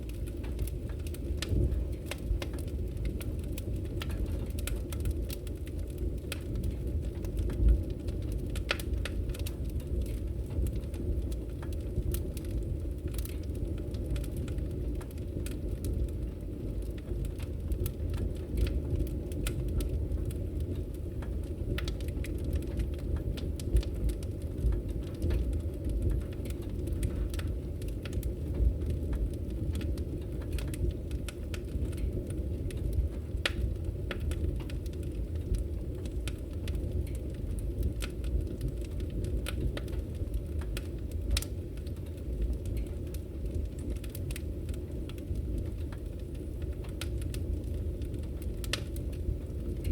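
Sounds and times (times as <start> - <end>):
firewood crackling and popping: 0.0 - 49.9.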